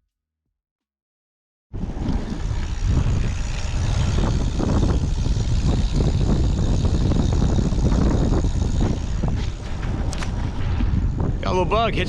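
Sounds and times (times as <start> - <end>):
wind noise: 1.7 - 12.0
road noise rumble: 1.8 - 12.0.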